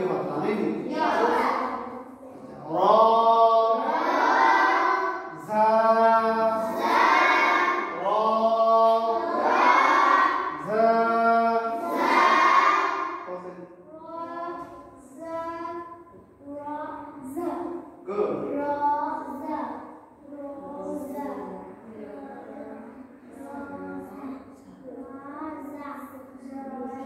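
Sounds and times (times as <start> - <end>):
children chanting in unison: 0.8 - 27.0.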